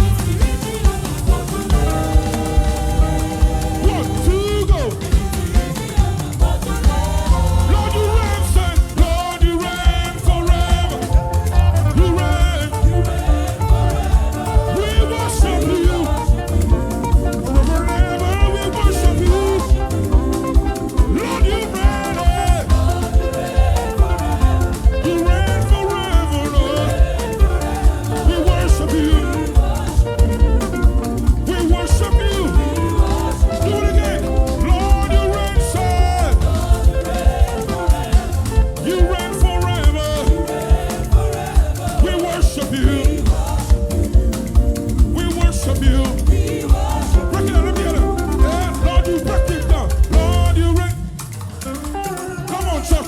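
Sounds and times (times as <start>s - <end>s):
person singing: 0.0s - 51.0s
heavy bass: 0.0s - 51.2s
gospel band playing: 0.0s - 53.0s
steady drum beat: 0.0s - 53.0s.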